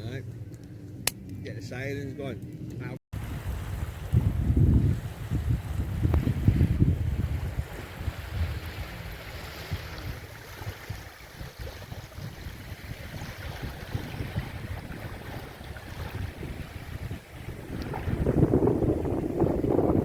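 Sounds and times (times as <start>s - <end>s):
wind buffeting microphone: 1.4s - 20.0s
surf on beach: 3.2s - 20.0s.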